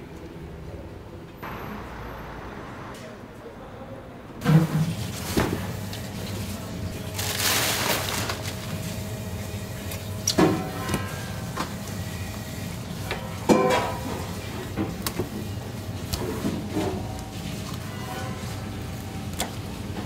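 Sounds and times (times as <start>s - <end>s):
kitchen hum: 1.4s - 20.0s.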